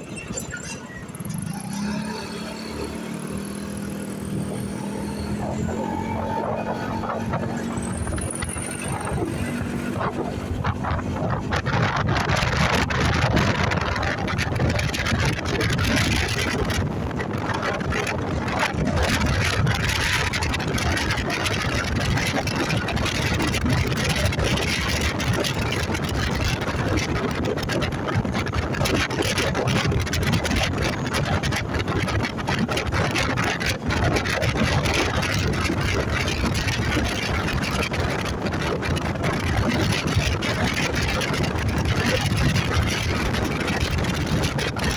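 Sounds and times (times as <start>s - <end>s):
wind rushing over microphone: 0.0s - 44.9s
motorcycle engine running: 0.8s - 44.9s.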